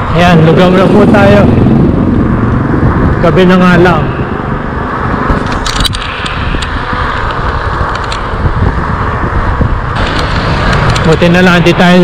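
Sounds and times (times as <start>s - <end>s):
bike road noise: 0.0s - 12.0s
wind buffeting microphone: 0.0s - 12.0s.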